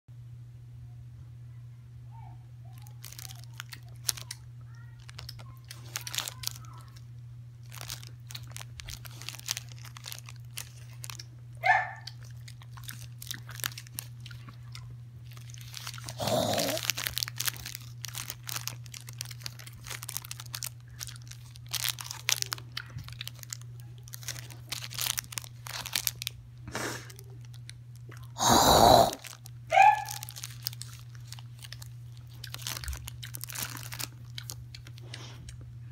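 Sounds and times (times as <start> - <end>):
dog chewing and crunching food: 2.6 - 35.9
plastic wrapper crinkling: 2.7 - 11.4, 12.0 - 26.4, 27.0 - 28.4, 29.1 - 35.2.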